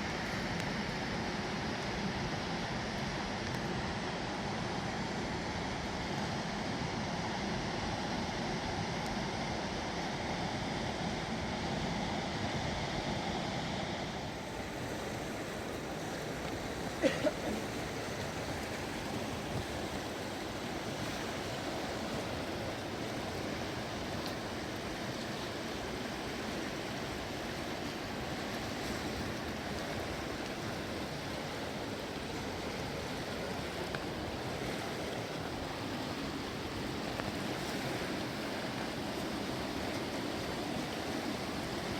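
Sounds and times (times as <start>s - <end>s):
fast-flowing river rushing: 0.0s - 41.9s.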